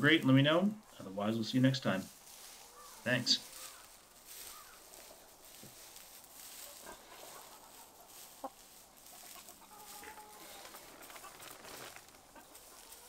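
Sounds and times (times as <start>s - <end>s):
hens clucking softly: 2.5s - 13.0s.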